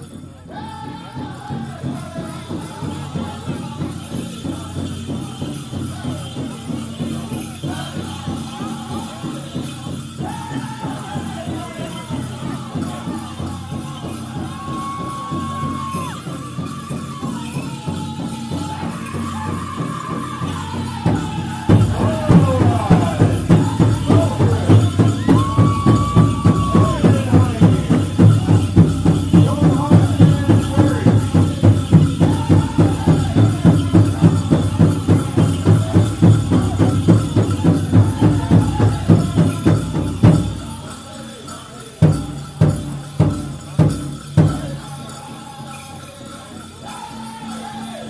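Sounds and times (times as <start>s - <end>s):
big drum beaten fast: 0.4s - 41.0s, 42.0s - 45.3s
high voices singing: 0.4s - 48.0s.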